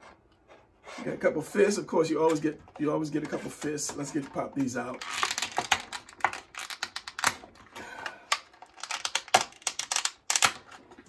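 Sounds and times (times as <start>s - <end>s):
plastic blister tray crackling: 1.5s - 11.0s.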